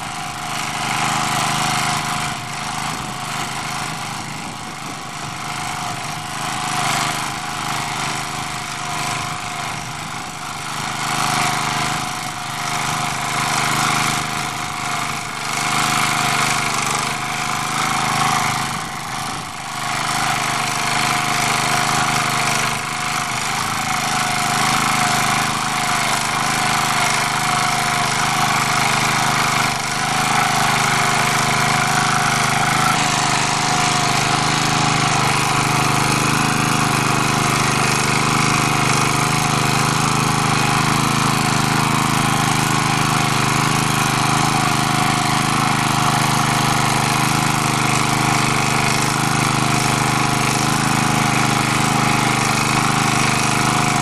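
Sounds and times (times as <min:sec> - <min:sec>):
rotary tiller working soil: 0:00.0 - 0:54.0
small engine running steadily: 0:00.0 - 0:54.0.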